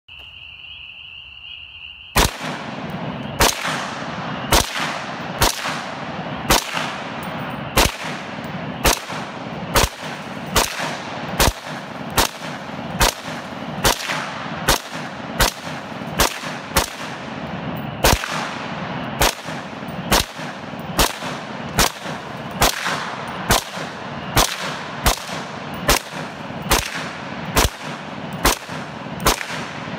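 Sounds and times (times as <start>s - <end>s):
rifle shots: 2.2s - 29.9s.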